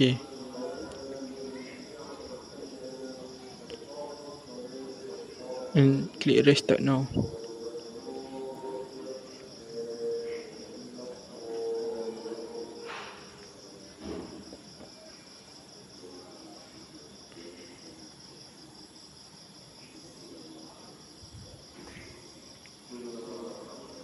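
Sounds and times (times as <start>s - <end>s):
high-pitched pulsing insect trill: 0.0s - 24.0s.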